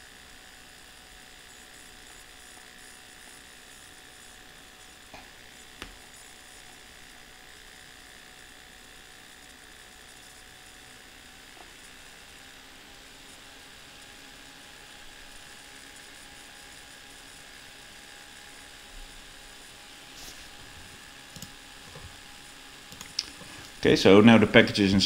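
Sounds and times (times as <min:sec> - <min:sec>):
background hiss and hum: 0:00.0 - 0:25.0.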